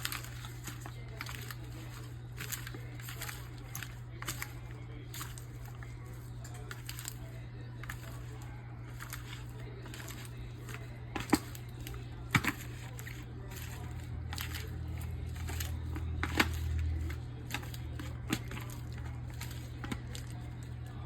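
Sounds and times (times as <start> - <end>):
salad squishing in a bowl: 0.0 - 21.0
steady low hum: 0.0 - 21.0.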